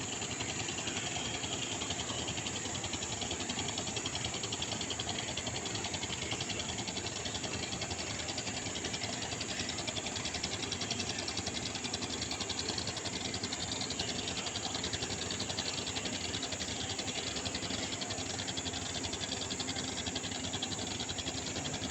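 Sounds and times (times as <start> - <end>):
boat motor running: 0.0 - 21.9
rattle: 0.0 - 21.9.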